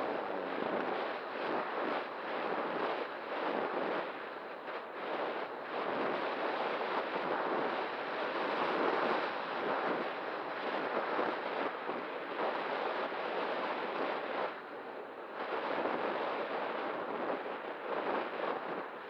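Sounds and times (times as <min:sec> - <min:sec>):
wind rushing on microphone: 0:00.0 - 0:19.0.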